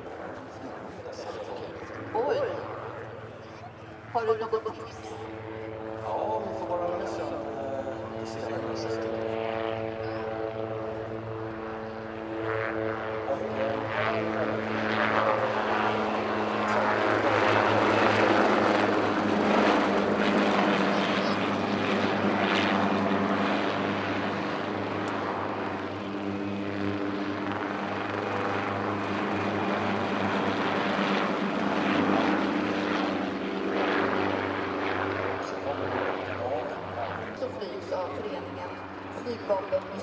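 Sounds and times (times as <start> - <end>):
helicopter engine and rotors: 0.0 - 40.0.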